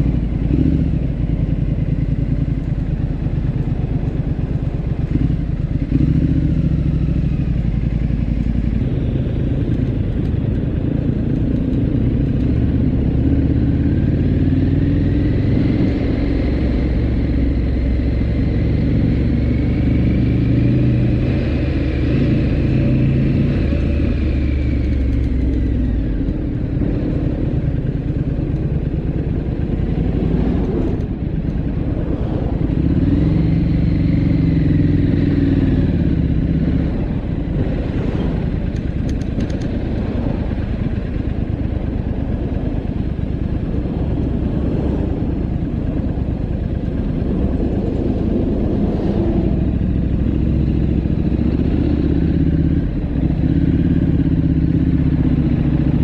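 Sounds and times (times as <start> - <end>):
motorcycle engine running: 0.0 - 56.0
wind noise: 7.6 - 56.0.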